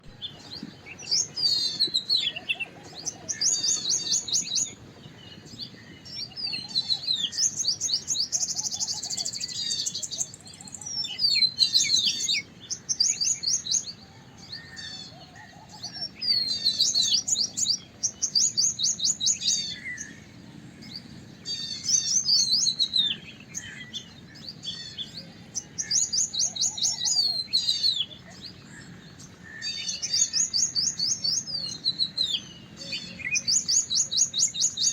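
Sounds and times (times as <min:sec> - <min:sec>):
bird singing trills and whistles: 0:00.0 - 0:34.9.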